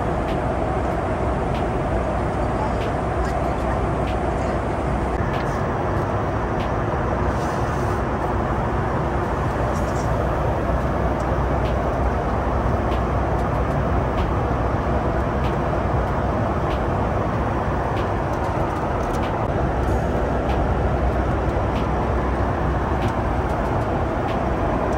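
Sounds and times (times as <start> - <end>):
airliner cabin roar: 0.0 - 24.9.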